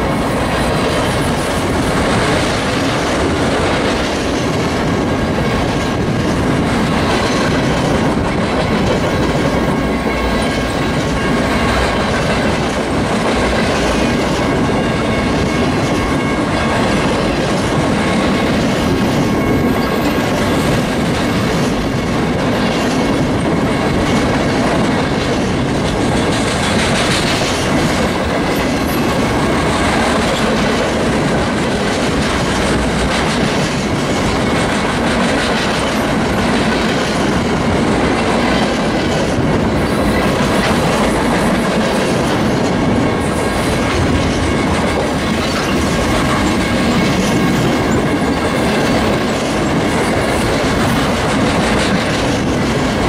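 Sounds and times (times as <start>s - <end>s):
steel wheels rumbling on rail: 0.0s - 53.0s.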